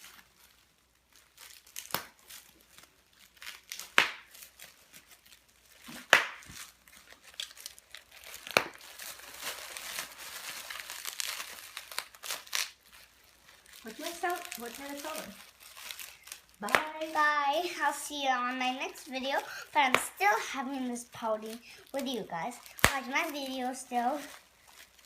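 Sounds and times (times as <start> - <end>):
bubble wrap popping: 0.0 - 25.0
plastic crinkling: 0.0 - 25.0.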